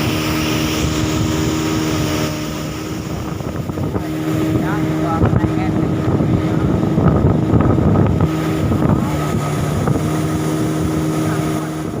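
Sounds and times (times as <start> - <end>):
motorboat engine humming: 0.0 - 12.0
rushing wind: 0.0 - 12.0
water rushing: 0.0 - 12.0.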